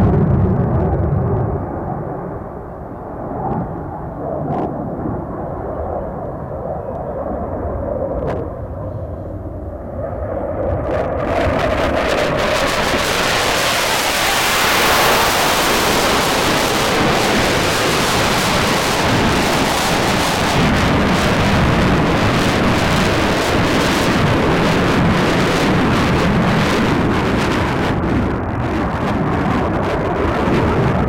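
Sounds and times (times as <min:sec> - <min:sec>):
jet engine roaring: 0:00.0 - 0:31.0.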